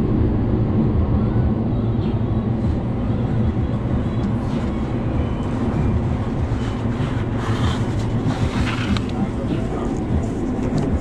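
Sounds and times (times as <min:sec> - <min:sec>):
train car rumbling: 0:00.0 - 0:11.0.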